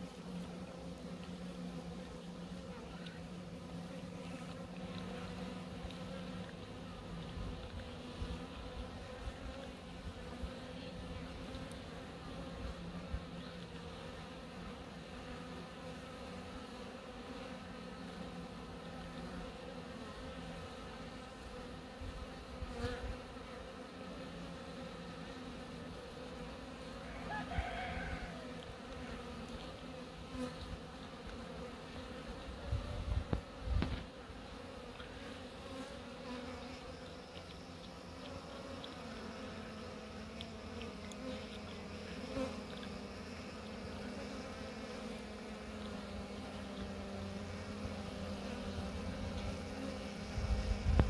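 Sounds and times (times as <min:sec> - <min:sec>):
honeybees buzzing: 0:00.0 - 0:51.0.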